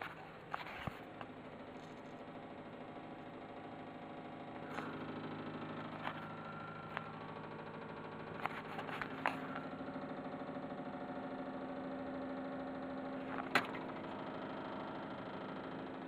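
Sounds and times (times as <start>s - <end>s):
pulsing droning hum: 0.0s - 16.0s.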